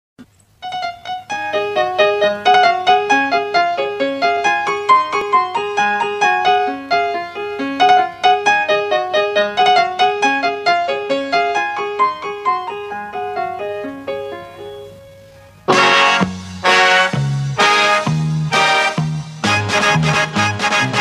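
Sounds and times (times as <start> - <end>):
keyboard melody: 0.6 - 21.0.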